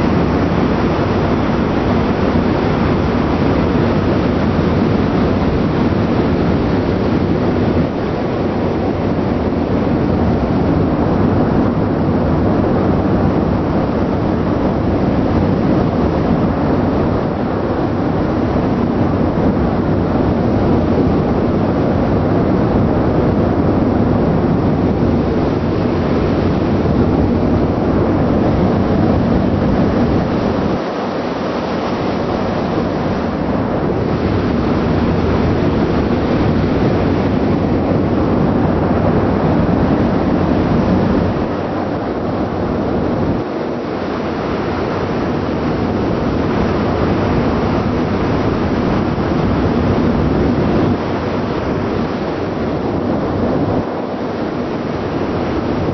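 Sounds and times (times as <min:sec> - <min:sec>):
loud wind: 0:00.0 - 0:55.9
ship noise rumble: 0:00.0 - 0:55.9
wind buffeting microphone: 0:00.0 - 0:55.9.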